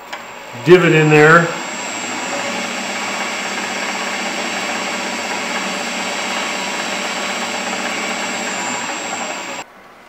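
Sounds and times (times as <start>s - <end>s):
wood lathe whine and hum: 0.0s - 9.7s.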